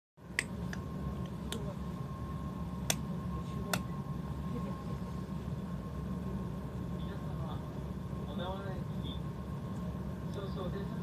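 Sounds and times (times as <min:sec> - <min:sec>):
electric train humming: 0:00.2 - 0:11.0.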